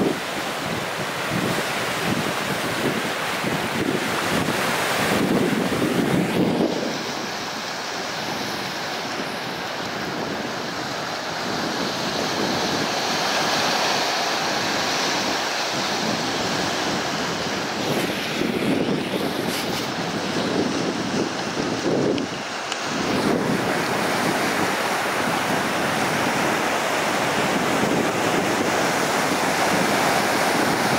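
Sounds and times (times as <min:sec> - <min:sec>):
waves breaking on rocky shore: 0:00.0 - 0:30.9.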